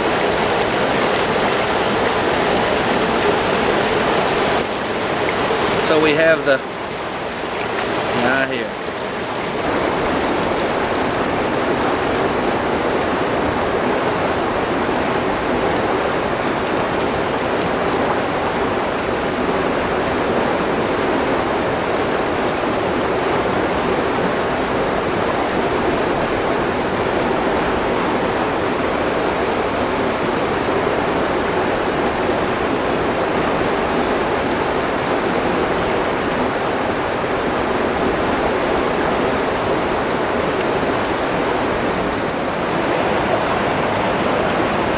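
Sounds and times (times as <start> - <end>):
river current rushing: 0.0 - 44.9.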